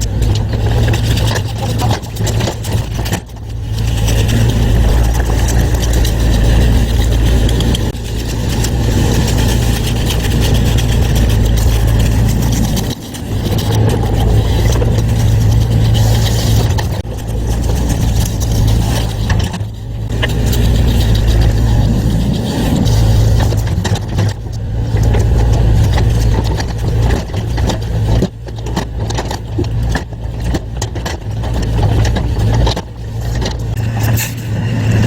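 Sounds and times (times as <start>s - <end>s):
concrete compactor humming: 0.0s - 35.0s.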